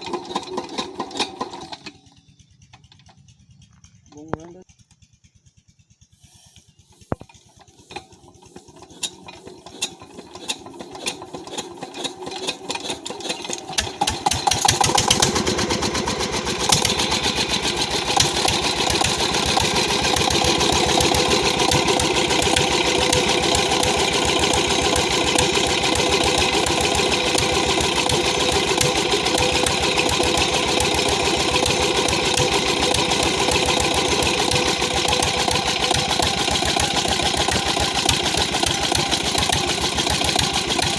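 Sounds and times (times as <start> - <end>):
diesel engine starting and running: 0.0 - 40.9.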